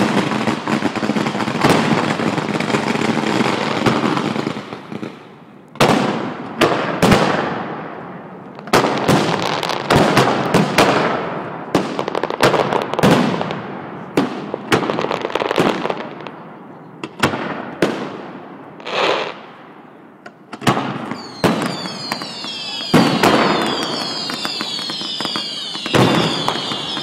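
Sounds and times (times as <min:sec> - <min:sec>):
fireworks bursting with bangs: 0:00.0 - 0:27.0.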